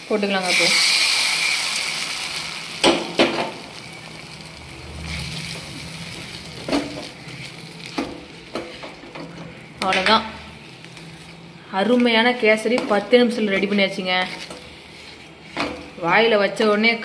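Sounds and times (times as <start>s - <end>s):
nuts sizzling in hot fat: 0.0s - 17.0s.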